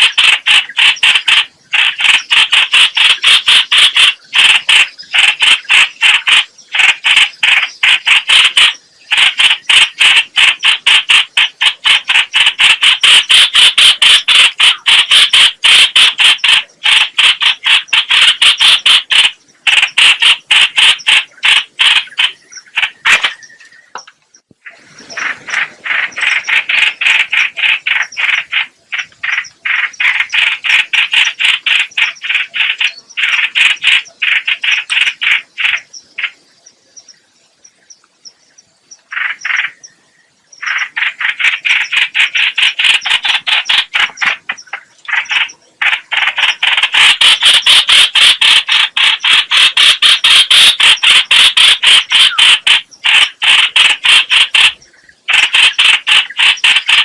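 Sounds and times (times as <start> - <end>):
bird calling harsh repeated notes: 0.0 - 57.0.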